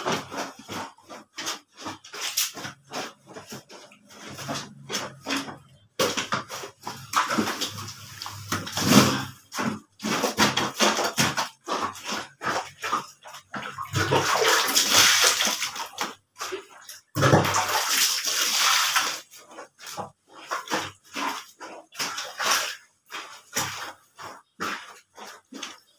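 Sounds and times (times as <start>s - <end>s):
blanket scrubbed and sloshed: 0.0s - 25.9s.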